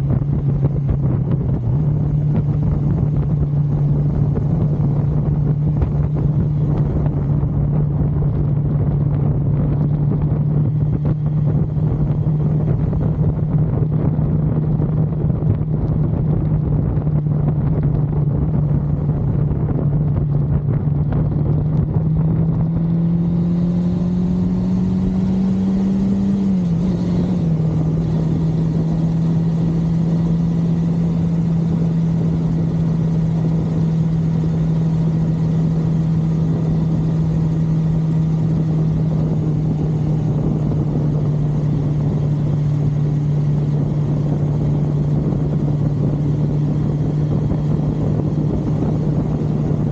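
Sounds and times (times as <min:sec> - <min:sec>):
motorcycle engine cruising: 0:00.0 - 0:49.9
wind rumbling over microphone: 0:00.0 - 0:49.9.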